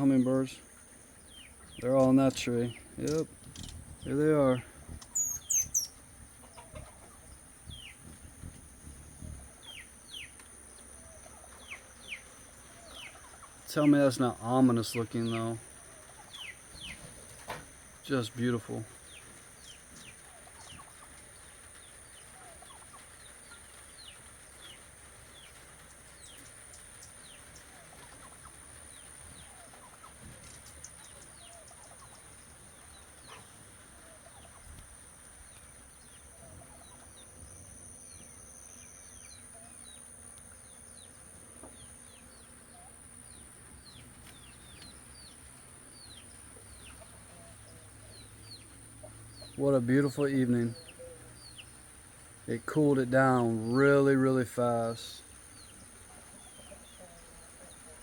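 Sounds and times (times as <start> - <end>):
bird chirps: 0.0 - 34.7, 35.3 - 58.0.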